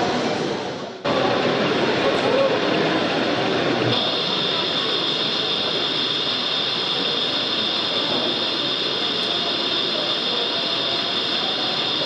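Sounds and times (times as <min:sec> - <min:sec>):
busy exhibition hall din: 0:00.0 - 0:12.0.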